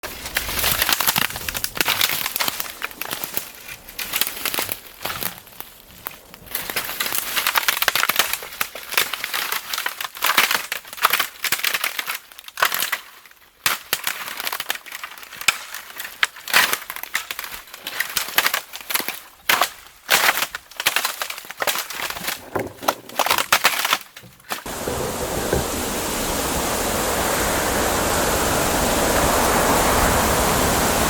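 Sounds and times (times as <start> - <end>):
dry bamboo leaves crackling: 0.0 - 28.1.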